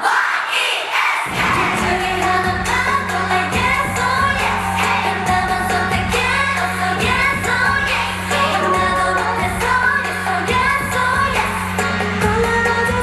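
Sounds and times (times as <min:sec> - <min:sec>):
pop song with female singing: 0:00.0 - 0:13.0.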